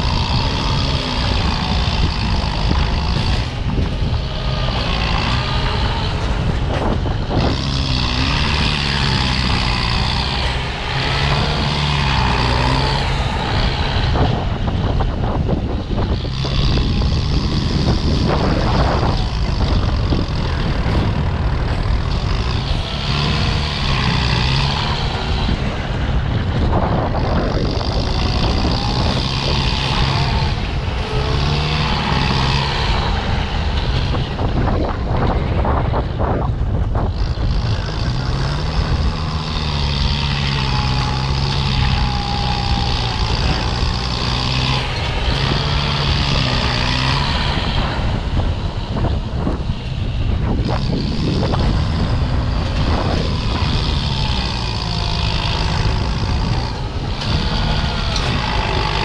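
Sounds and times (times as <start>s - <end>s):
tractor diesel engine working: 0.0s - 59.0s
wavering high whine: 0.0s - 59.0s.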